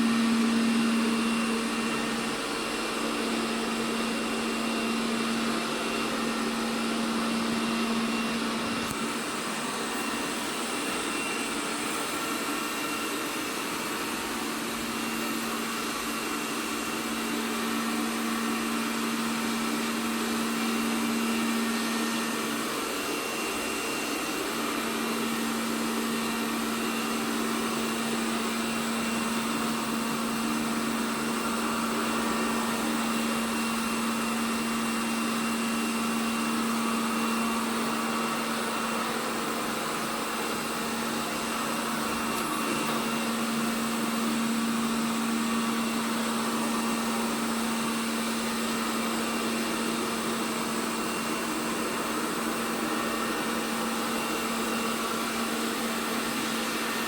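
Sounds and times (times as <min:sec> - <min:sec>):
robot vacuum motor hum: 0:00.0 - 0:57.0.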